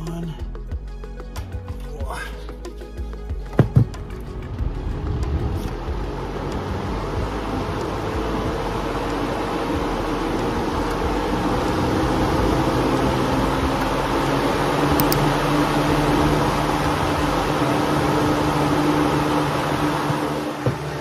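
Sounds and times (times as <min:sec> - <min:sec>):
drum fan running: 0:02.4 - 0:21.0.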